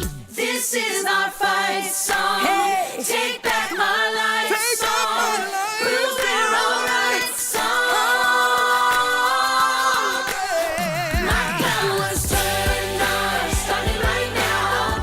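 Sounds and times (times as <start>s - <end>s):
vocal group singing in harmony: 0.0s - 15.0s.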